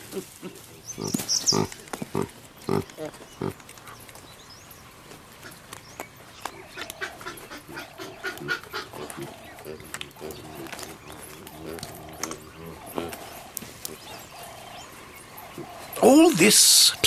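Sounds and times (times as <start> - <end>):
baboons grunting: 0.0 - 4.0, 6.5 - 17.0.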